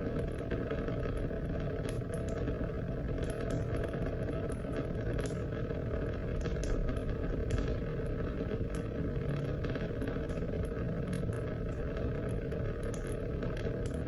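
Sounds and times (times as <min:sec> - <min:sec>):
raindrops spattering: 0:00.1 - 0:14.0
steady rain: 0:00.1 - 0:14.0.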